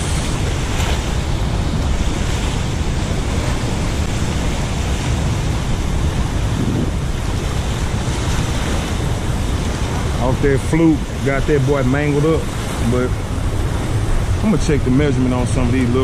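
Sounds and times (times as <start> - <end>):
water rushing over rocks: 0.0 - 16.0
wind buffeting the microphone: 0.0 - 16.0.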